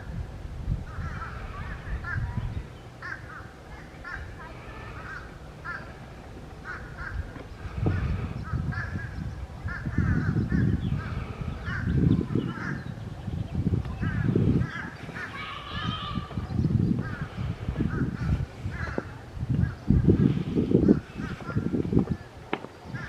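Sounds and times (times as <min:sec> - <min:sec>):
low rumble bursts: 0:00.0 - 0:23.0
birds harsh calls: 0:00.8 - 0:23.0.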